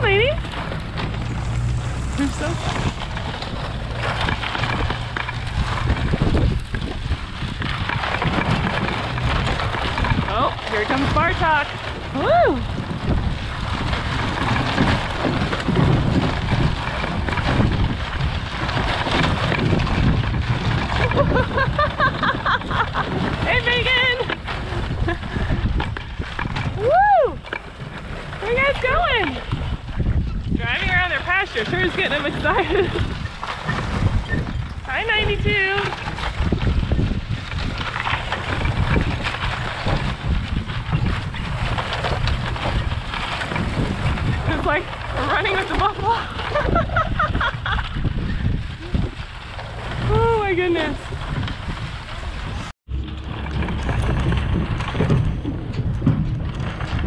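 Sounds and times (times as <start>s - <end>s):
chain-link fence dragged on ground: 0.0s - 57.0s
vehicle rumbling: 0.0s - 57.0s
wind buffeting microphone: 0.0s - 57.0s.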